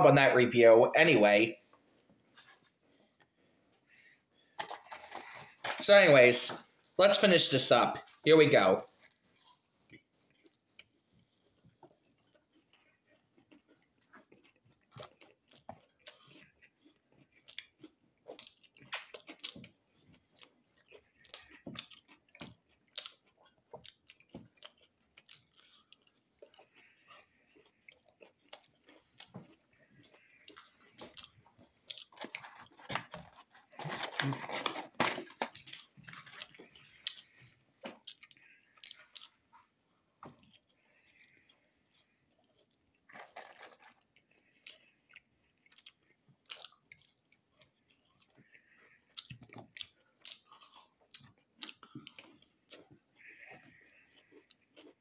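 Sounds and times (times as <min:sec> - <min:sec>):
man chewing food: 0:01.2 - 0:05.8, 0:08.0 - 0:55.0.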